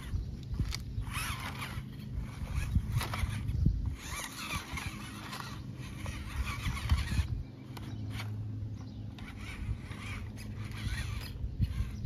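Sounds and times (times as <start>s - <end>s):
toy truck electric motor hum: 0.0s - 12.0s.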